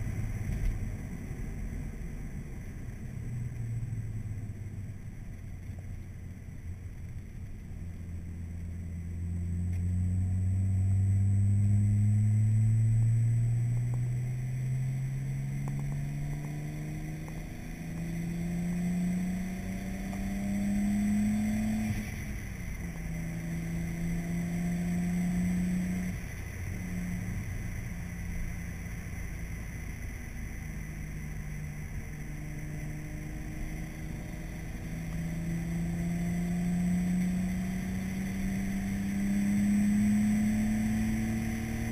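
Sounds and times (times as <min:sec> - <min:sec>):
car engine accelerating: 0:00.0 - 0:41.9
road rumble: 0:00.0 - 0:41.9.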